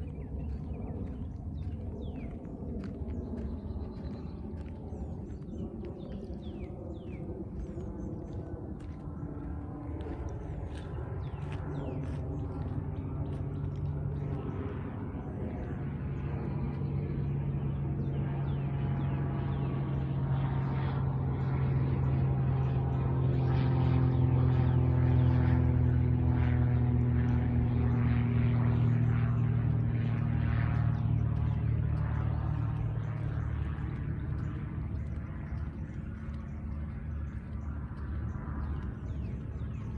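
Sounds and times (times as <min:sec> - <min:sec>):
engine drone passing by: 0:00.0 - 0:39.9.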